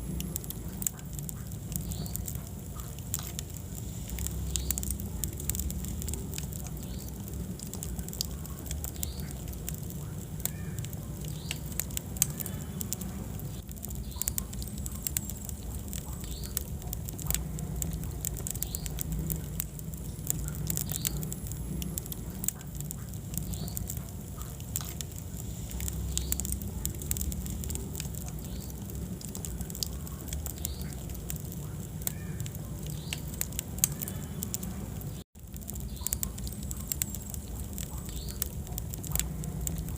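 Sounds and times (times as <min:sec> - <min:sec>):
wood fire crackling: 0:00.0 - 0:39.9
squeaks from burning logs: 0:00.2 - 0:39.9.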